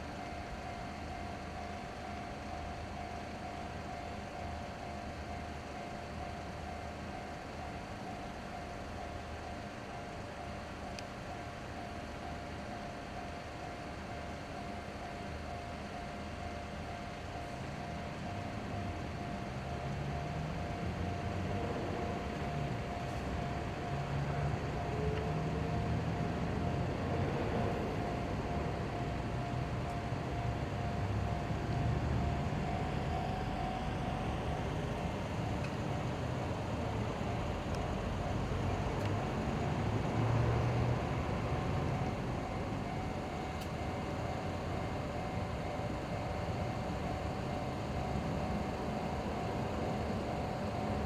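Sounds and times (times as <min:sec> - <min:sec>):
diesel railcar engine: 0:00.0 - 0:51.0.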